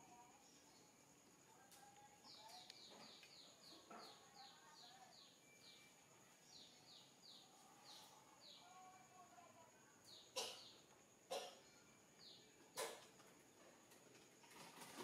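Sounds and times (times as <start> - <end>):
small bird chirping: 0.1 - 9.2, 9.8 - 13.1.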